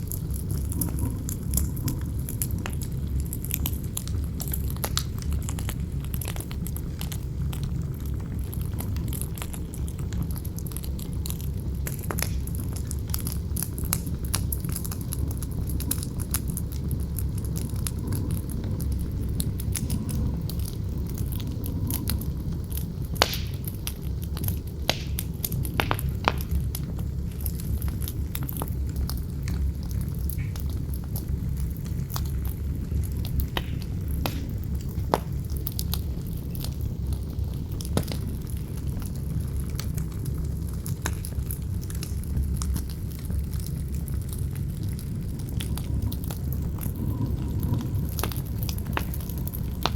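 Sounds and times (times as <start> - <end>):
campfire crackling and popping: 0.0 - 49.9
low rumble of wind: 0.0 - 49.9.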